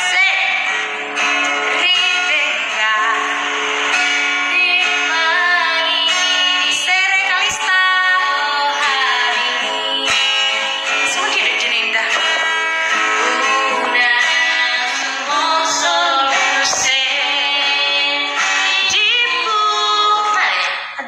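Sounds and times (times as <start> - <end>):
acoustic guitar: 0.0 - 21.0
woman singing: 0.0 - 21.0.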